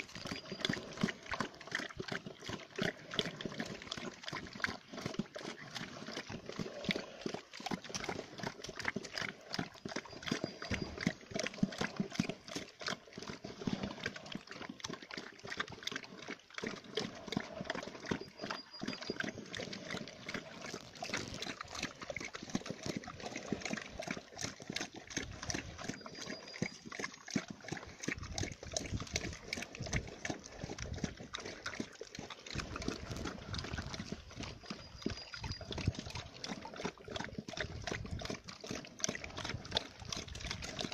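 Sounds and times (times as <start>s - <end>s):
animals slurping and chomping: 0.0s - 40.9s.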